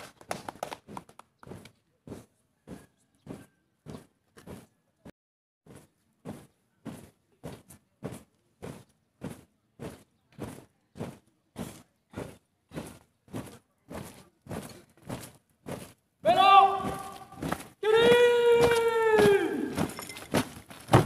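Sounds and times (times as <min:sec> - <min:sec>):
troop marching in step: 0:00.0 - 0:04.8, 0:05.7 - 0:21.0.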